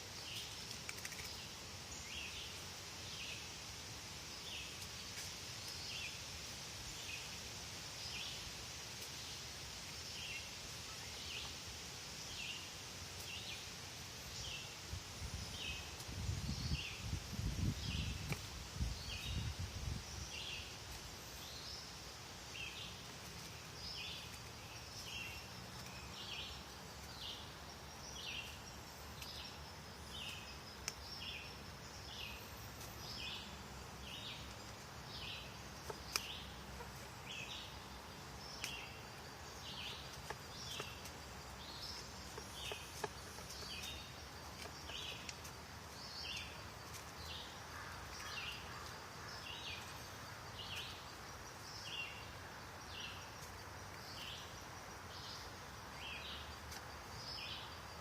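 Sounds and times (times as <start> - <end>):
outdoor background noise: 0.0 - 58.0.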